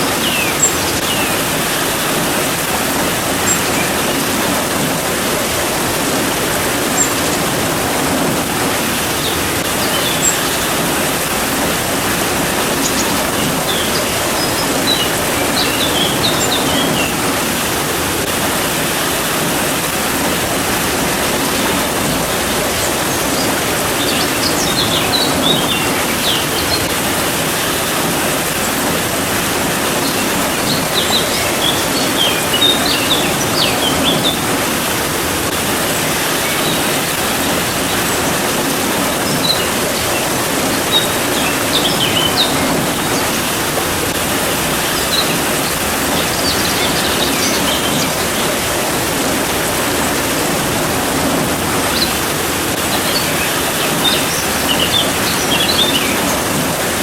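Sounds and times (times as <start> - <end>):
small birds chirping: 0.0 - 50.6, 51.2 - 56.9
steady rain hiss: 0.0 - 57.0.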